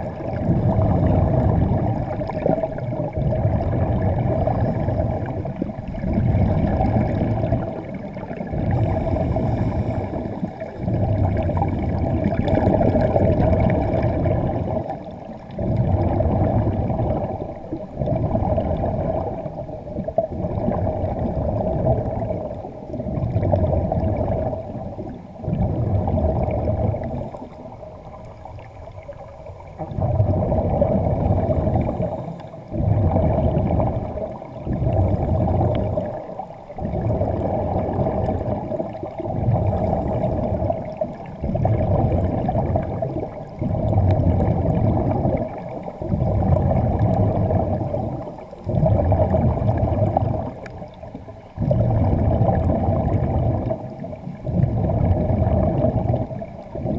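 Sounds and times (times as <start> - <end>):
underwater air bubbling: 0.0 - 56.9.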